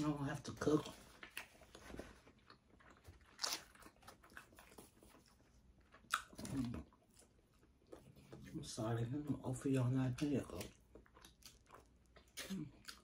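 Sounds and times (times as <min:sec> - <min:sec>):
person chewing pizza: 0:00.1 - 0:09.0, 0:10.1 - 0:13.0.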